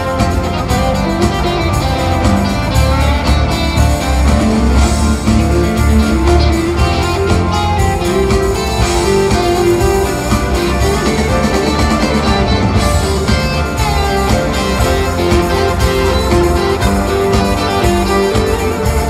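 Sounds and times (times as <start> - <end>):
bass line: 0.0 - 19.0
drums: 0.0 - 19.0
electric guitars: 0.0 - 19.0
keyboards: 0.0 - 19.0.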